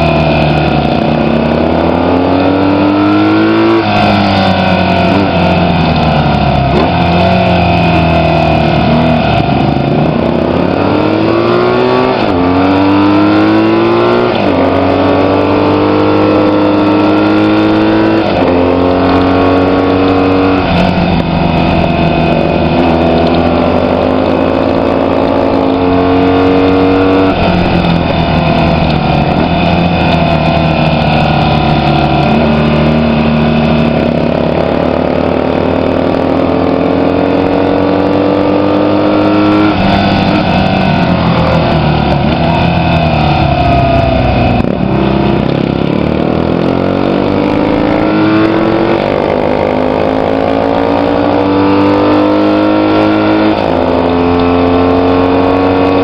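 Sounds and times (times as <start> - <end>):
racing motorcycle engine at full throttle: 0.0 - 56.0.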